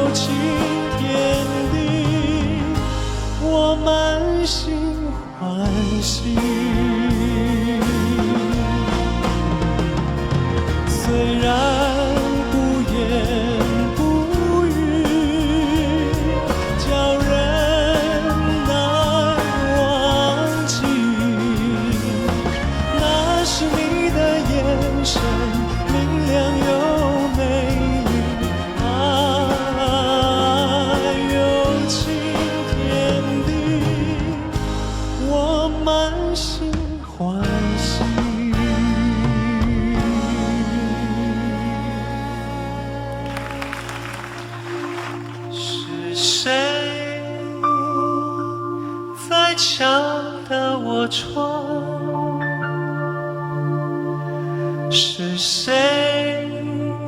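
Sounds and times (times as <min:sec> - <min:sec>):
pop ballad with band: 0:00.0 - 0:57.0.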